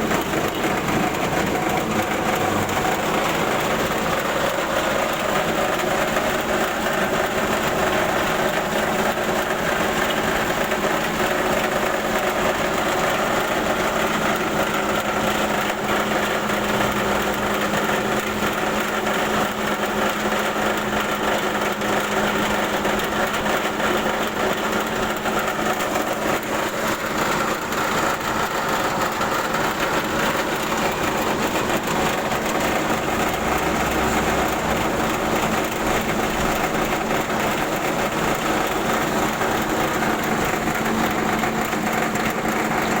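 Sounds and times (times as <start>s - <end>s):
rice huller machine droning: 0.0s - 43.0s.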